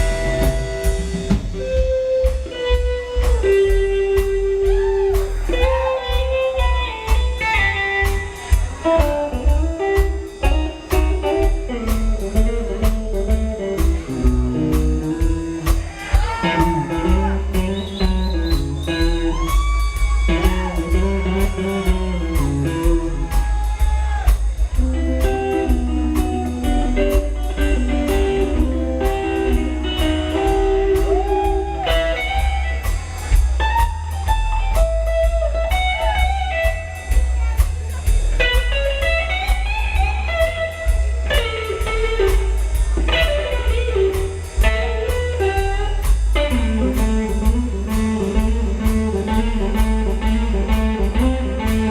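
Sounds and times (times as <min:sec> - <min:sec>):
heavy bass: 0:00.0 - 0:51.9
steady drum beat: 0:00.0 - 0:51.9
twangy electric guitar: 0:00.0 - 0:51.9.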